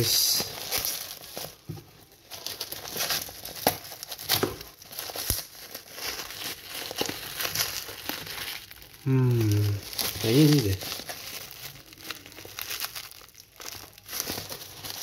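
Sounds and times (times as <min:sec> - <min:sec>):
plastic bag crinkling and tearing: 0:00.0 - 0:15.0.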